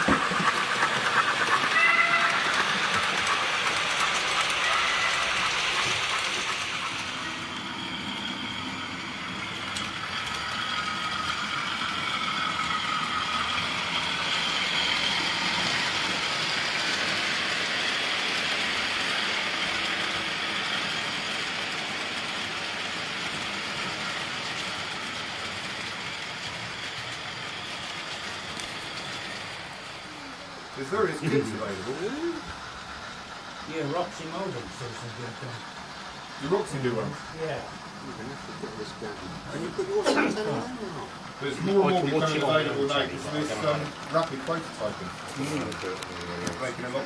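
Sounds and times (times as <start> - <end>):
locomotive motors whirring: 0.0 - 47.0
model train wheels rattling: 0.0 - 47.0.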